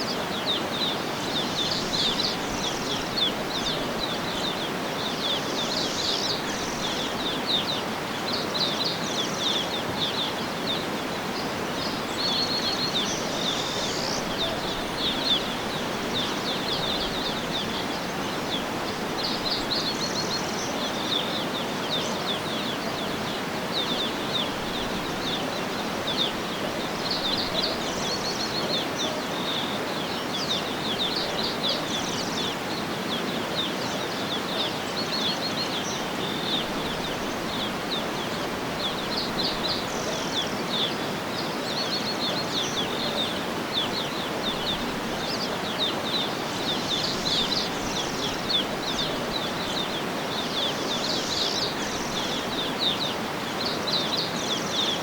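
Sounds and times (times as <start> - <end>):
outdoor background hiss: 0.0 - 55.0
small birds chirping: 0.0 - 55.0.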